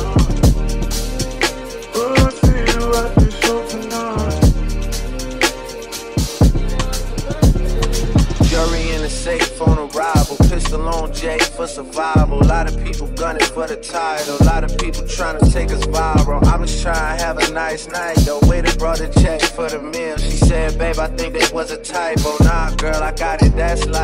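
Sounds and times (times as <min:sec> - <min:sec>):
man rapping over a beat: 0:00.0 - 0:24.0.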